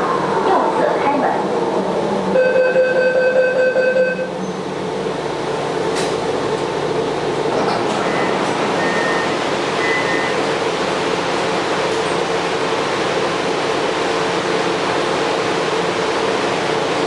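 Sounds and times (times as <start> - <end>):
train rushing rumble: 0.0 - 2.4, 4.3 - 17.0.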